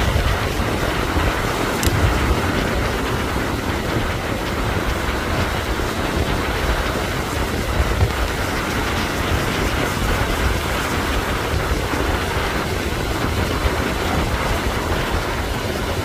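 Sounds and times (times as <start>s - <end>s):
surf breaking: 0.0s - 16.0s
wind buffeting microphone: 0.0s - 16.0s.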